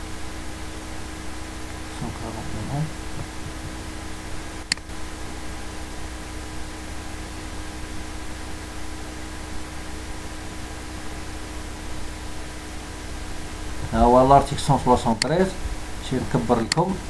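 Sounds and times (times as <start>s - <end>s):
low hum: 0.0s - 17.0s
recording hiss: 0.0s - 17.0s.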